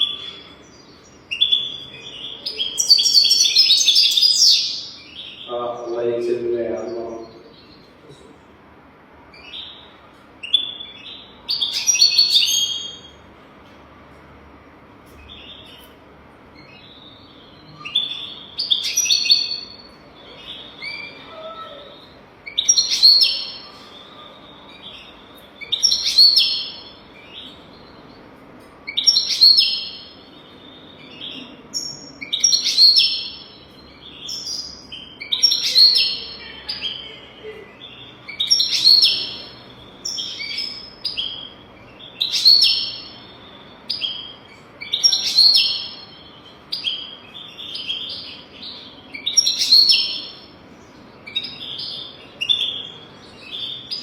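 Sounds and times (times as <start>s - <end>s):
finch twittering song: 0.0s - 8.0s, 9.3s - 13.2s, 15.0s - 54.0s.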